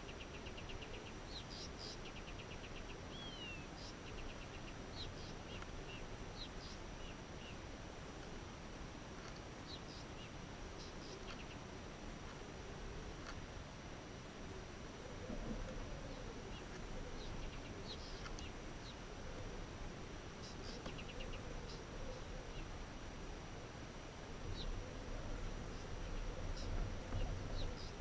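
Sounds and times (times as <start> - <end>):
small birds calling: 0.0 - 8.4, 9.2 - 13.4, 15.0 - 19.6, 20.3 - 22.8, 24.4 - 28.0
low background hiss: 0.0 - 28.0.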